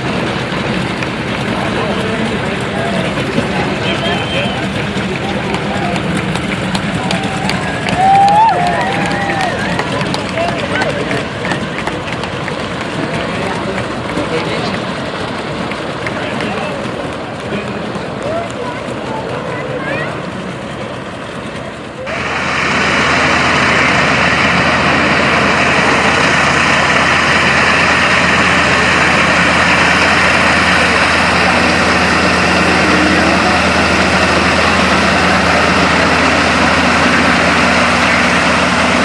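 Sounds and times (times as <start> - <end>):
aircraft engine running: 0.0 - 39.0.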